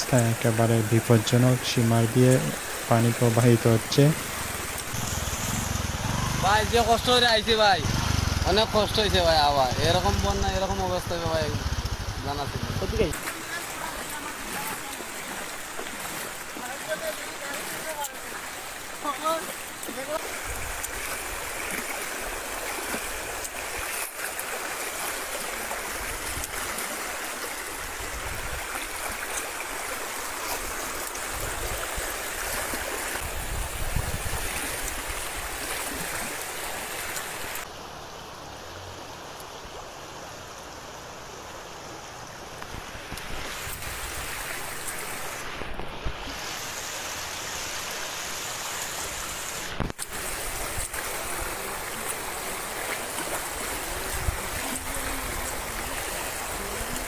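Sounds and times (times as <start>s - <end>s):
floodwater rushing: 0.0s - 37.7s, 40.9s - 57.0s.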